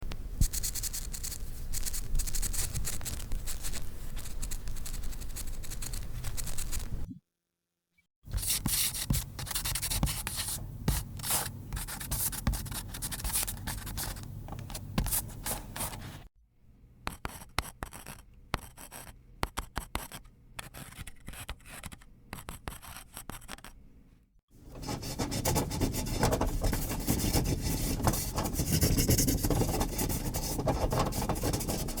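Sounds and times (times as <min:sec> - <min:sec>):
pencil scratching on paper: 0:00.4 - 0:07.0, 0:08.3 - 0:16.3, 0:17.1 - 0:23.8, 0:24.7 - 0:32.0.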